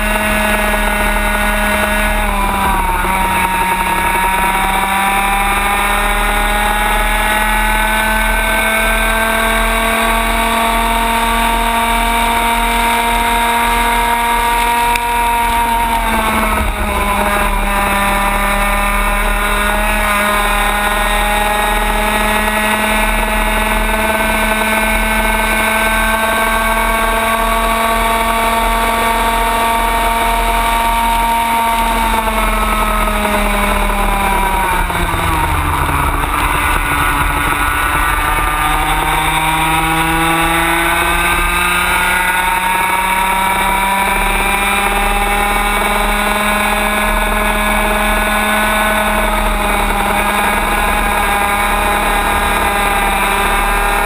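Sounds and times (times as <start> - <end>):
kart engine at high revs: 0.0 - 54.0.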